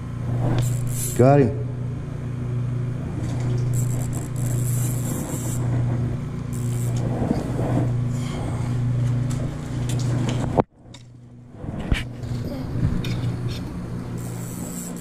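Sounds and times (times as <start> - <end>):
low hum of road traffic: 0.0 - 15.0.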